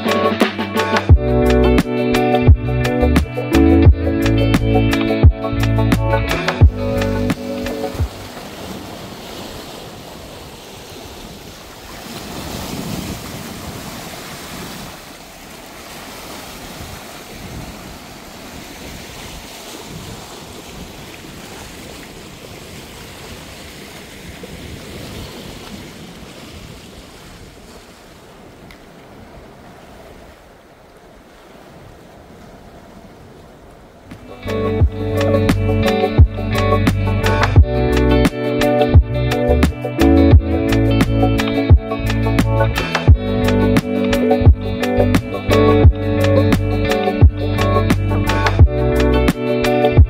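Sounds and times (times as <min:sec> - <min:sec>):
sea waves washing in: 0:00.0 - 0:50.0
wind rumbling on microphone: 0:02.5 - 0:15.1, 0:16.2 - 0:50.0.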